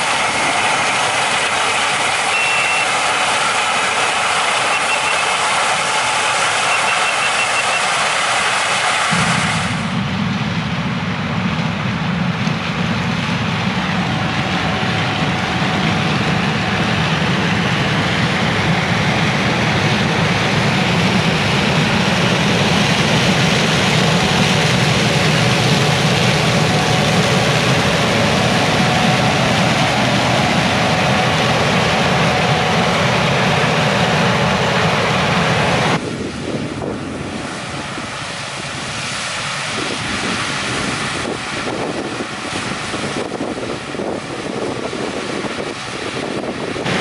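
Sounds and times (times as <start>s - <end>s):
combine harvester running: 0.0s - 47.0s.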